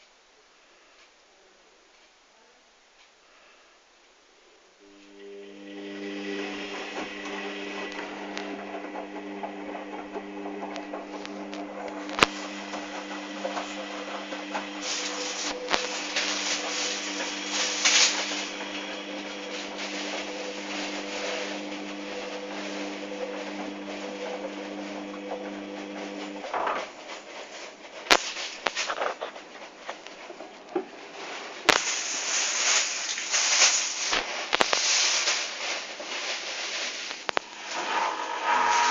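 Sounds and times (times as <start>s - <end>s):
washing machine electric hum: 4.8s - 38.9s.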